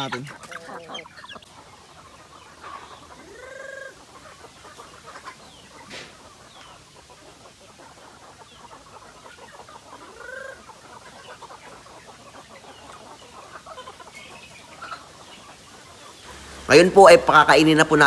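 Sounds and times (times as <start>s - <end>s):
chickens clucking: 0.0s - 18.0s
loud long chicken call: 0.0s - 18.0s.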